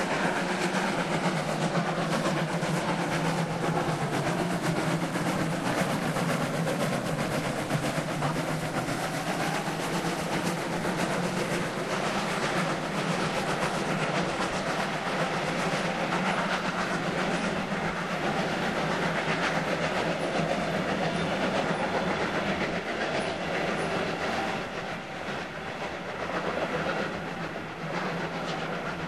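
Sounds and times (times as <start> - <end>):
steam locomotive exhaust: 0.0 - 29.0
train wheels clattering over rail joints: 0.0 - 29.0.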